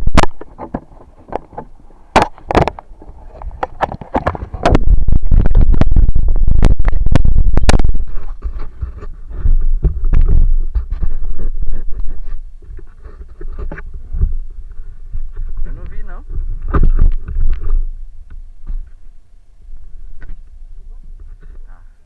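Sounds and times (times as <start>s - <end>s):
rumbling scratching on microphone: 2.4s - 22.0s.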